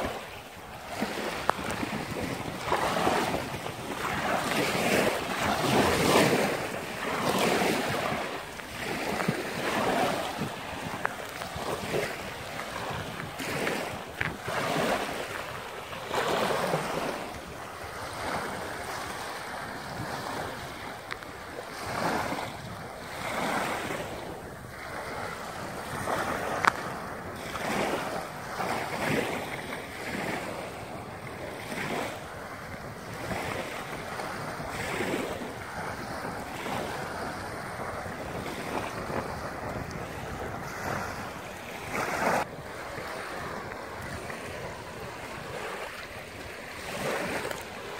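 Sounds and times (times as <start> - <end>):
waves washing on pebble beach: 0.0 - 47.9
wind buffeting microphone: 0.0 - 47.9.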